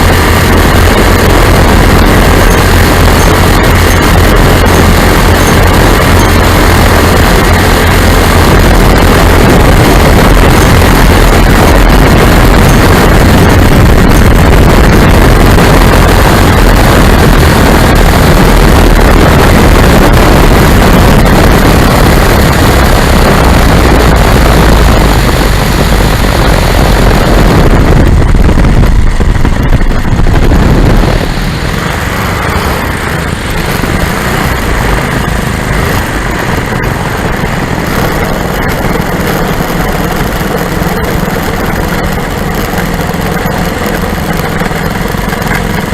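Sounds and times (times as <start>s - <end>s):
aircraft engines running: 0.0s - 45.9s
wind noise on microphone: 0.0s - 45.9s.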